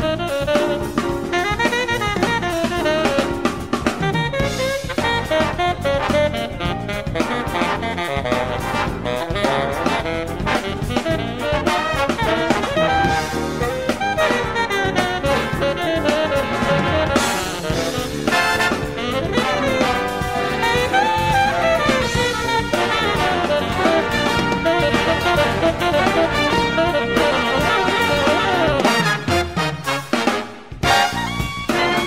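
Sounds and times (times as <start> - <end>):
big band jazz: 0.0 - 32.0
brass and saxophones: 0.0 - 32.0
busy bass line: 0.0 - 32.0
drum kit: 0.0 - 32.0.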